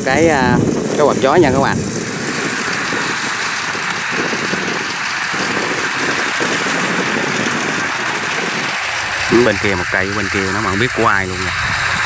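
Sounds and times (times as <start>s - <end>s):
combine harvester rushing noise: 0.0s - 12.0s.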